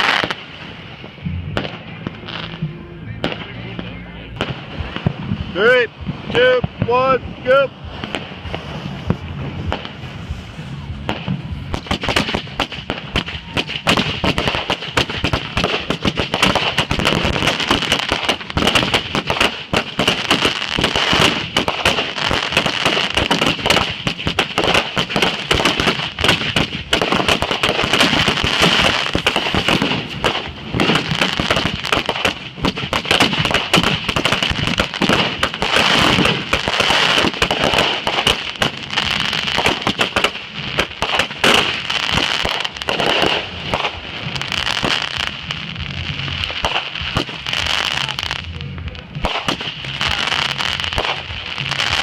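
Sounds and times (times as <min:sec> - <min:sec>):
fireworks banging and crackling: 0:00.0 - 0:52.0.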